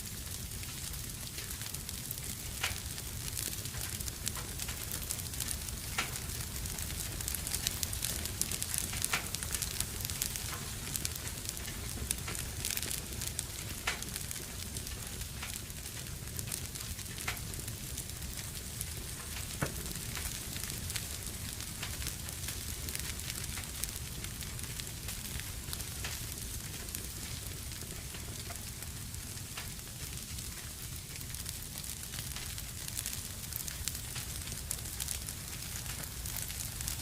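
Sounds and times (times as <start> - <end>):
fire crackling in fireplace: 0.0 - 37.0.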